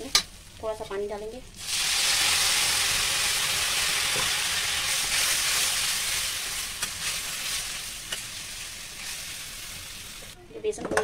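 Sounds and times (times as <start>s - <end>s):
food sizzling loudly in oil: 0.0s - 10.4s.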